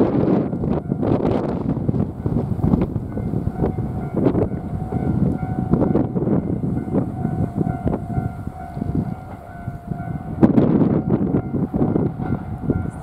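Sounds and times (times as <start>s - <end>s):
level-crossing warning signal ringing: 0.0s - 13.0s
train rumbling: 0.0s - 13.0s.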